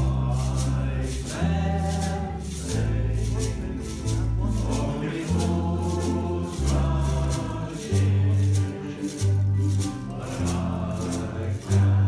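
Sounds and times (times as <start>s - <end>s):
deep bass line: 0.0s - 12.0s
group voices singing: 0.0s - 12.0s
hand shaker ticking: 0.0s - 12.0s
strummed ukuleles: 0.0s - 12.0s.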